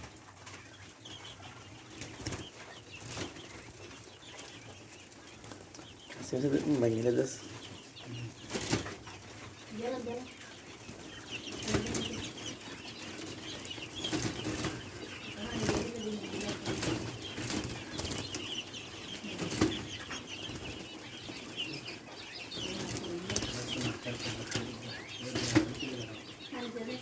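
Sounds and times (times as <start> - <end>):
quail chirping: 0.0 - 27.0.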